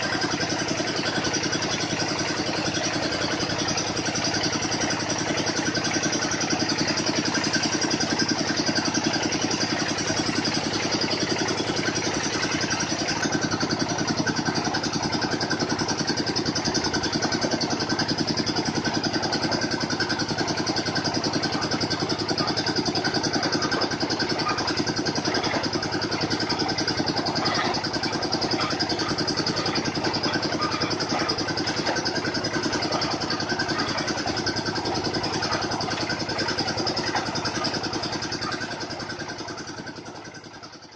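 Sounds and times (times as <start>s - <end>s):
drilling rig engine running: 0.0s - 40.9s.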